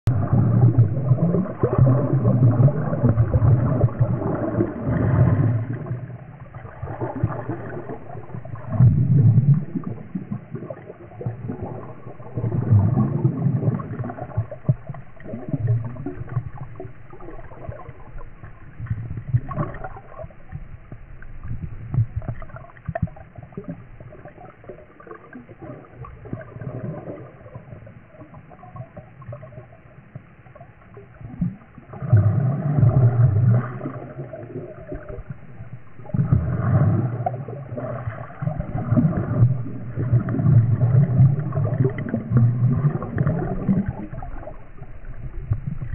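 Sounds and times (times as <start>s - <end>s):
underwater bubbling water: 0.1s - 45.9s.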